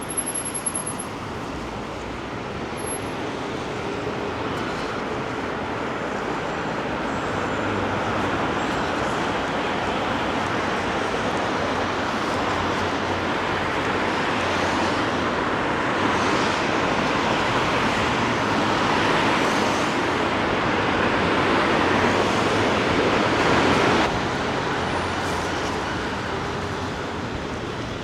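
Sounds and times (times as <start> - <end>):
traffic hissing on wet road: 0.0 - 28.0.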